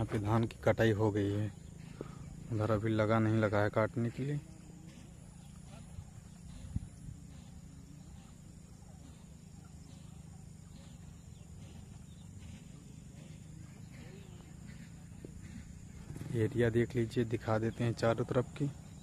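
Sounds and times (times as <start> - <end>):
distant bird chirps: 0.0 - 19.0
steady low rumble: 0.0 - 19.0.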